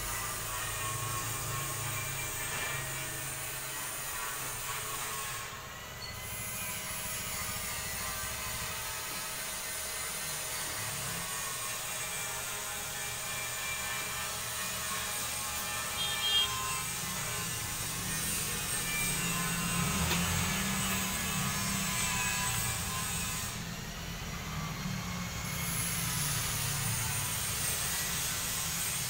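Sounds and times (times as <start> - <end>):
mechanical whirring hum: 0.0 - 29.0.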